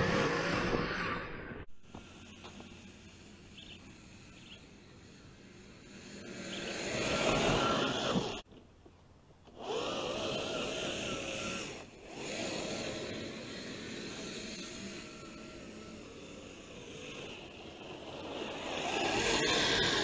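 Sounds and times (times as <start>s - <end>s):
electric motor and gearbox whine: 0.0s - 8.8s, 9.4s - 20.0s.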